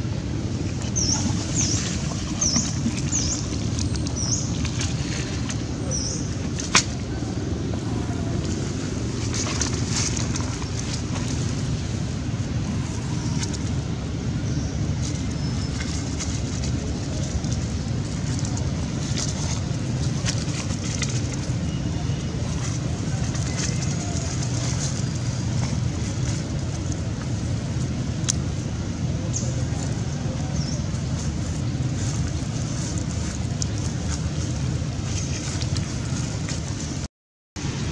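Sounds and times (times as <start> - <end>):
low outdoor rumble: 0.0 - 37.9.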